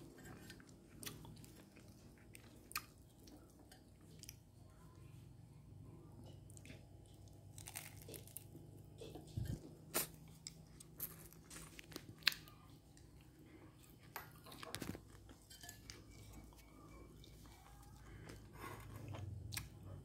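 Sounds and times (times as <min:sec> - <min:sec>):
chewing and crunching: 0:00.0 - 0:05.0, 0:06.2 - 0:20.0.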